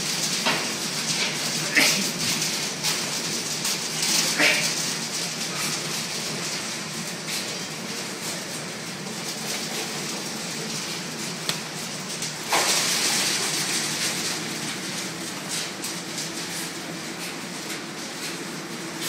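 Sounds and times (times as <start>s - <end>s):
mechanical hum and hiss: 0.0s - 19.0s.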